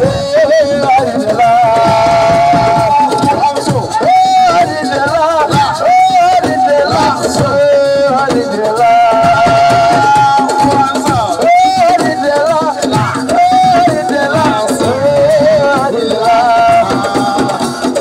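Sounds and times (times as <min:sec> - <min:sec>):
hand drums and percussion: 0:00.0 - 0:18.0.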